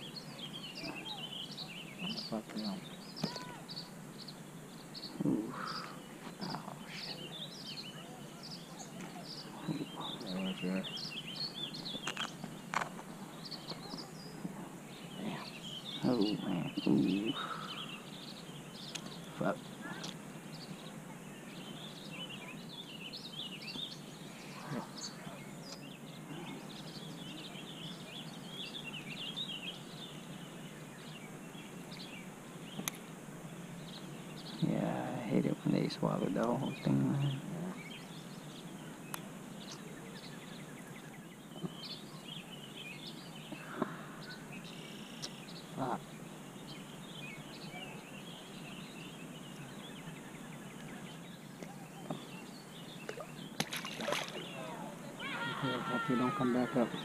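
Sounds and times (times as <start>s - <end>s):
small birds chirping: 0.0s - 57.0s
steady outdoor hiss: 0.0s - 57.0s.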